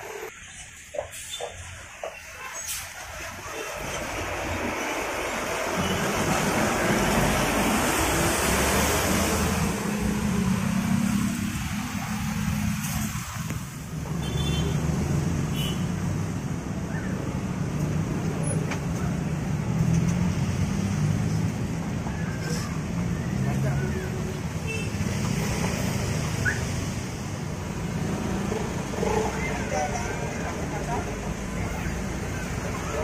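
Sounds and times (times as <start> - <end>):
bus passing: 0.0 - 33.0
tyre and traffic noise: 0.0 - 33.0
motorcycles passing: 4.3 - 33.0.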